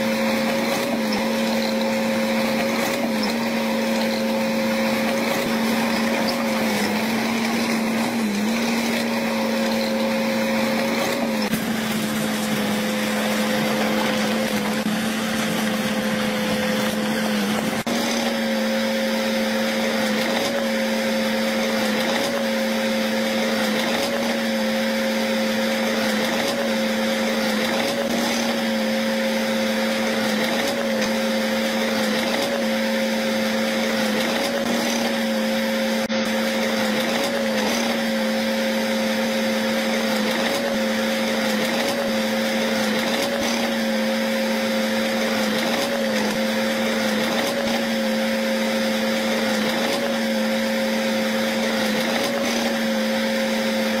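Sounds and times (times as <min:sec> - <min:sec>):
bulldozer machine whine: 0:00.0 - 0:54.0.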